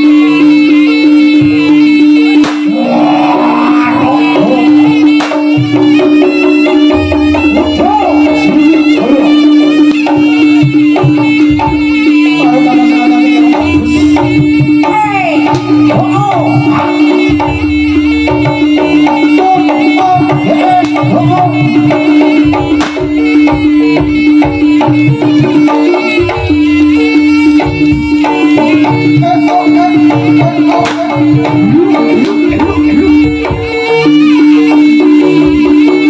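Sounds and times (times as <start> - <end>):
gamelan percussion: 0.0 - 36.0
hand drums playing busy rhythm: 0.0 - 36.0
steady held note: 1.6 - 35.0.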